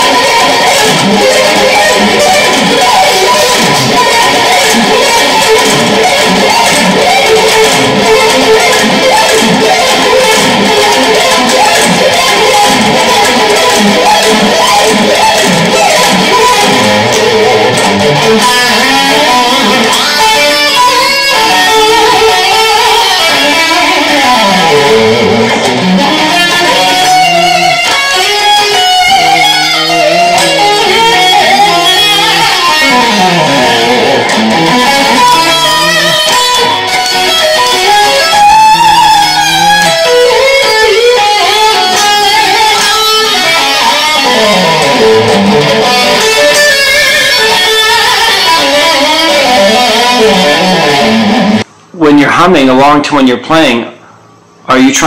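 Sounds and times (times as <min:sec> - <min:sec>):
fast electric guitar runs: 0:00.0 - 0:51.6.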